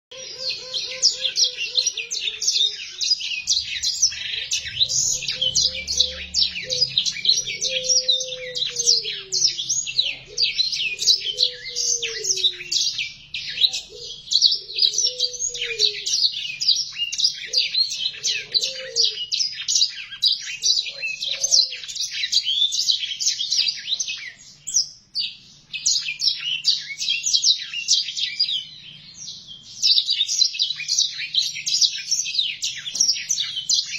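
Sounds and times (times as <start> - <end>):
canary twittering song: 0.1 - 33.9.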